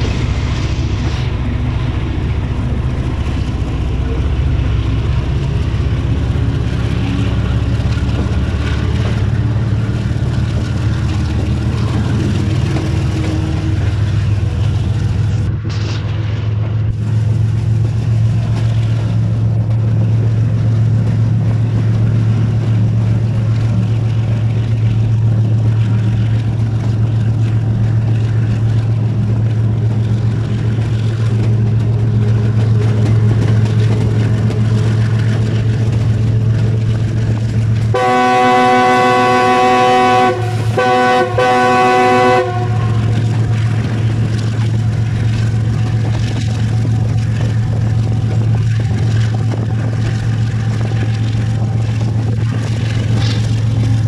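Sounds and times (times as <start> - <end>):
locomotive engine droning: 0.0 - 54.0.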